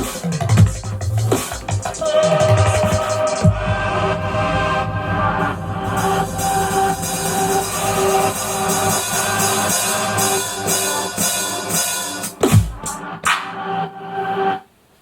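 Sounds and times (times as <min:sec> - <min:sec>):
electronic music with drum beat: 0:00.0 - 0:14.5.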